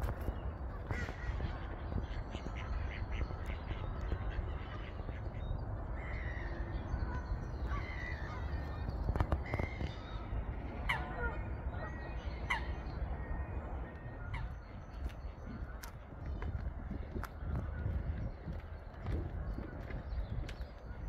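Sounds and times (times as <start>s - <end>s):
birds calling: 0.0s - 21.0s
steady low rumble: 0.0s - 21.0s.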